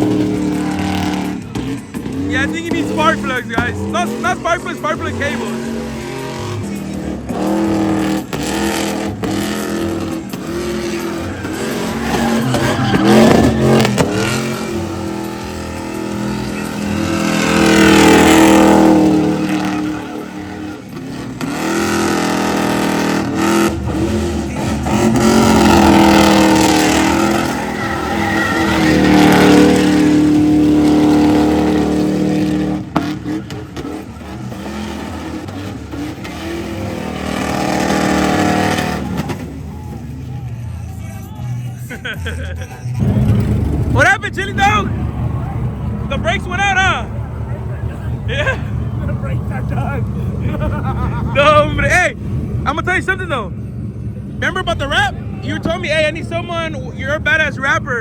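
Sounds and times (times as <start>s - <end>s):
tire noise: 0.0s - 58.0s
truck engine revving hard: 0.0s - 58.0s.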